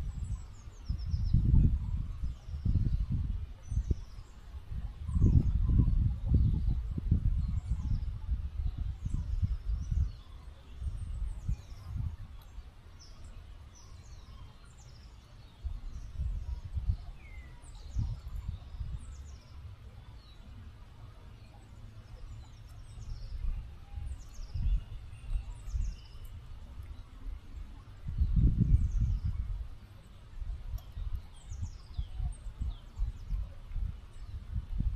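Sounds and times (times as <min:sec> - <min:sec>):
small songbirds chirping: 0:00.0 - 0:34.9.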